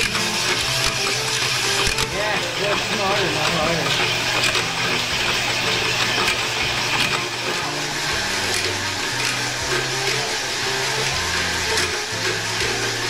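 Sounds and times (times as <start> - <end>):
background music: 0.0 - 13.0
drill grinding scrape: 0.0 - 13.0.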